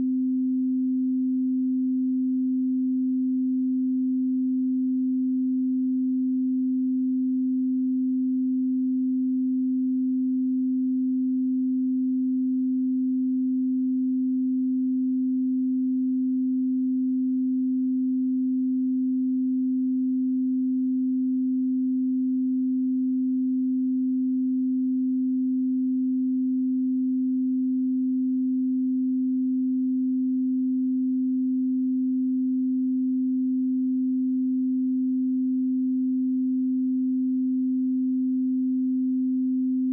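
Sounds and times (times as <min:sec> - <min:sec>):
sine-wave calibration tone: 0:00.0 - 0:39.9.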